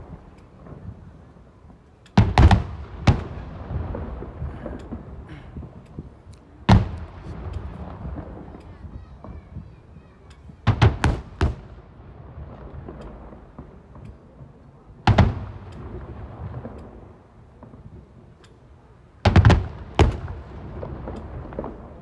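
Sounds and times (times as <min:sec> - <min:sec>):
fireworks bursting with echo: 0:00.0 - 0:22.0.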